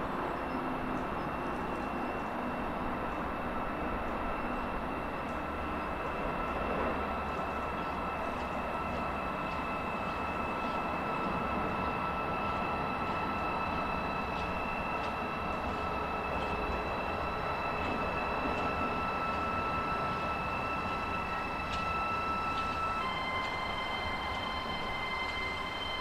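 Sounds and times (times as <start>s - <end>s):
high-pitched whine: 0.0s - 26.0s
train wheels rumbling on rail: 0.0s - 26.0s.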